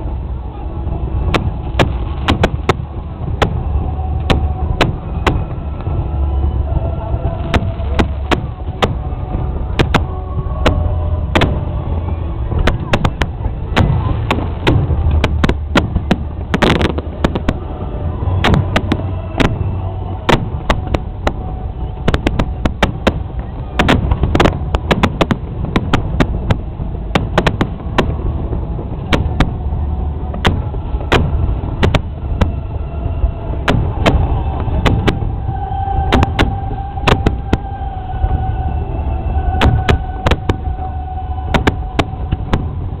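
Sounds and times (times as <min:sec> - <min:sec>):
fireworks bangs and crackles: 0:00.0 - 0:38.4, 0:39.4 - 0:43.0
rumble of fireworks booms: 0:00.0 - 0:43.0.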